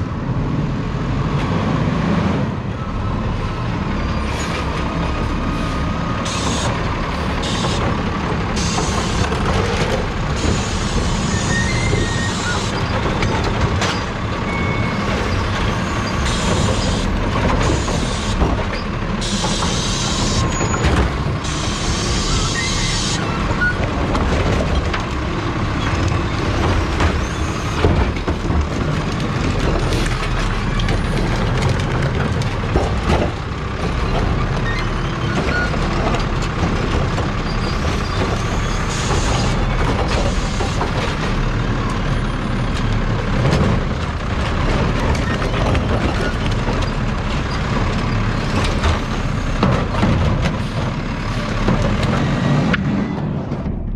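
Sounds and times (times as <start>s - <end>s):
garbage truck running: 0.0s - 53.9s
trash carts knocking and clattering: 6.3s - 53.9s.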